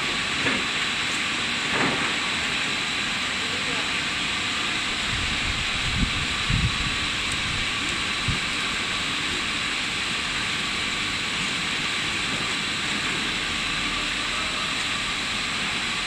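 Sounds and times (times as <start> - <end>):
extrusion machine hissing and humming: 0.0 - 16.0.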